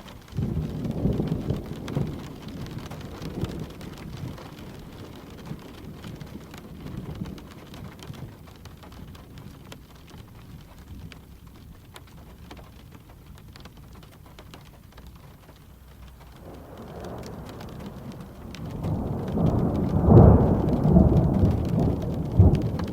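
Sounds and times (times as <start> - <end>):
low rumble of thunder: 0.0 - 14.7, 15.6 - 22.9
gentle rain: 0.0 - 22.9.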